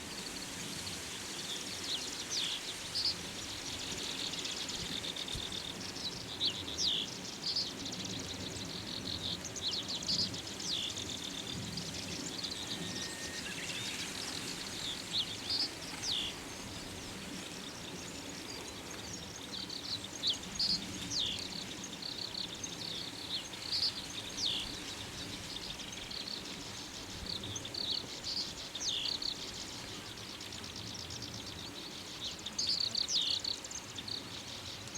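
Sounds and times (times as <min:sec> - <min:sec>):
steady background hiss: 0:00.0 - 0:34.9.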